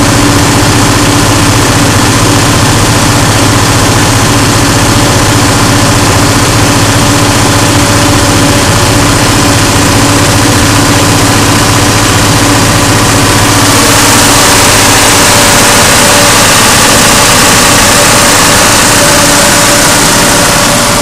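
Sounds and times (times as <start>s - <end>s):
generator diesel engine droning: 0.0s - 21.0s.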